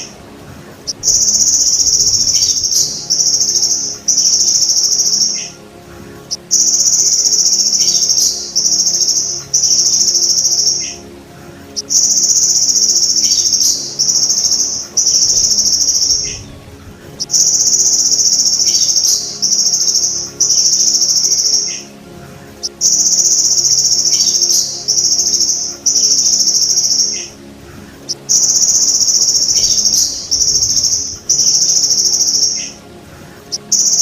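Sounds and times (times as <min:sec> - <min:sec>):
grasshopper buzzing trill: 0:00.0 - 0:34.0.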